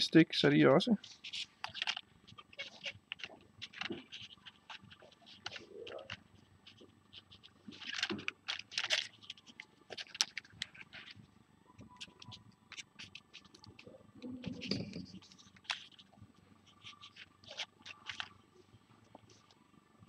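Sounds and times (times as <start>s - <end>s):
scraping and rustling: 1.0s - 19.6s.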